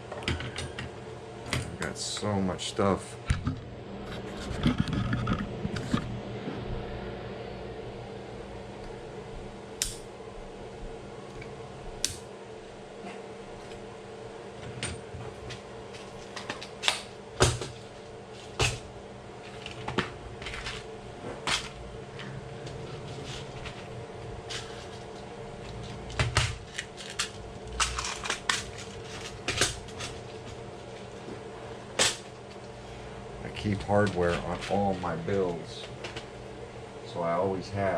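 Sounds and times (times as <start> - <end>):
faint hum: 0.0 - 37.9.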